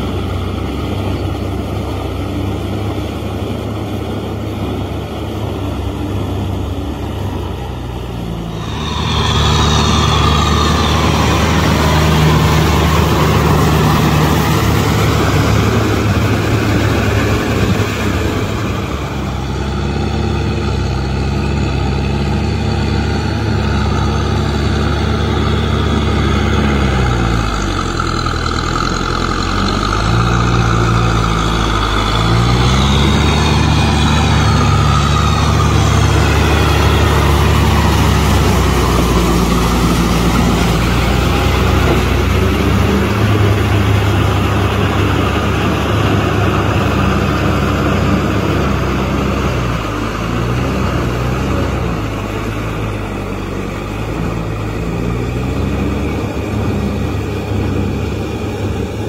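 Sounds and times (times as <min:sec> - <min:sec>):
rotavator churning mud: 0:00.0 - 0:59.0
tractor diesel engine under load: 0:00.0 - 0:59.0.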